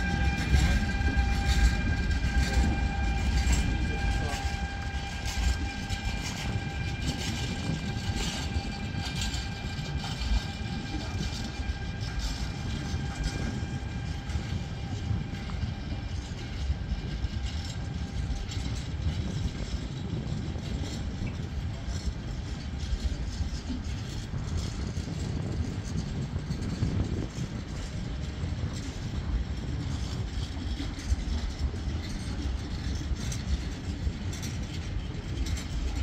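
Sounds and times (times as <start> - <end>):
train wheels rumbling and clicking: 0.0 - 36.0.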